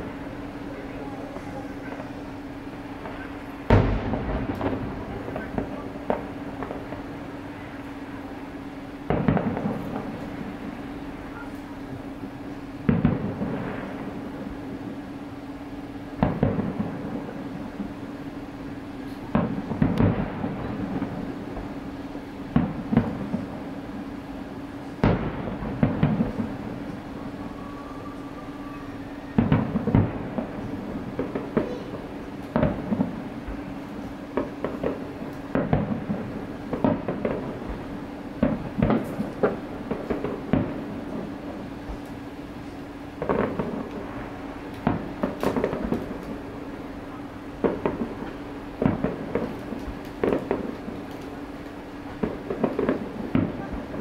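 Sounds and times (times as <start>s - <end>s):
distant fireworks booming: 0.0s - 54.0s
steady low hum: 0.0s - 54.0s.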